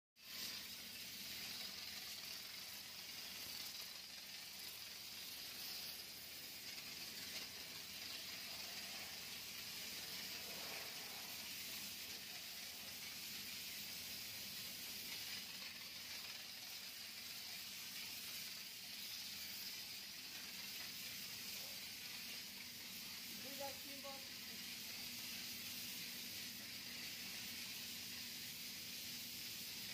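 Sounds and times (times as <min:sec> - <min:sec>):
steam jet hissing: 0:00.2 - 0:29.9.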